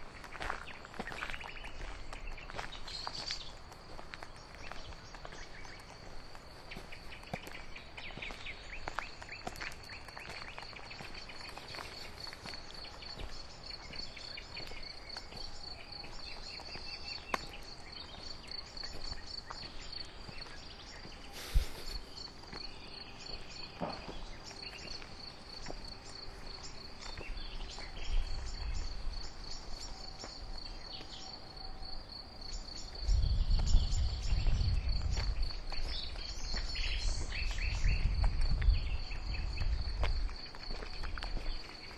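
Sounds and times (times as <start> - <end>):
bird song: 0.0 - 41.9
crickets trilling: 0.0 - 41.9.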